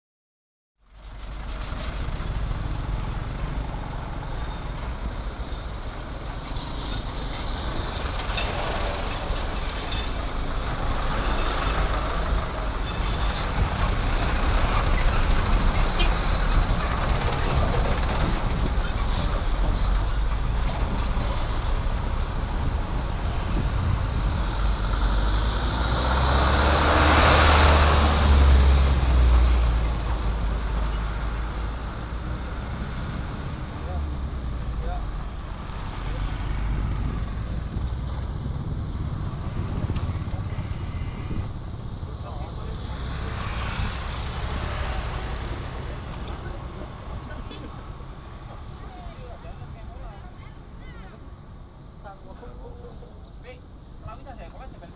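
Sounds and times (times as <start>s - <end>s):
trucks driving past: 0.8s - 54.9s
cars driving past: 0.9s - 54.9s.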